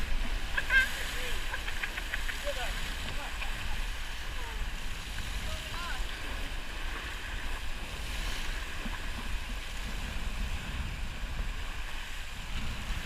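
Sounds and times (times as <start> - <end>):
water rushing along hull: 0.0 - 13.0
wind rumbling on microphone: 0.0 - 13.0.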